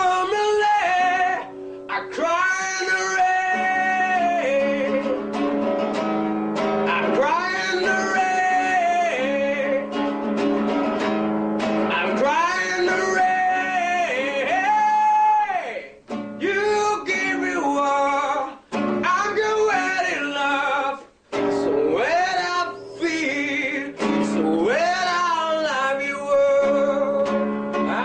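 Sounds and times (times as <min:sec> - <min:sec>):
guitar accompaniment: 0:00.0 - 0:28.0
pop song melody: 0:00.0 - 0:28.0.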